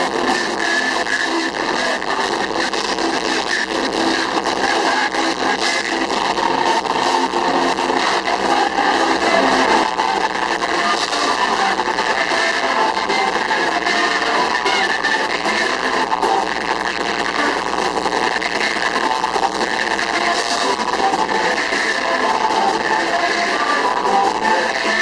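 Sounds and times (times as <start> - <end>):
distorted praise music over loudspeakers: 0.0 - 25.0
large crowd noise: 0.0 - 25.0.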